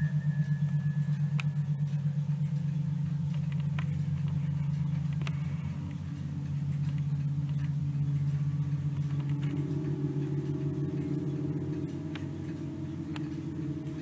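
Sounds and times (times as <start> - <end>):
low droning rumble with flutter: 0.0 - 14.0
faint ticks: 1.1 - 14.0.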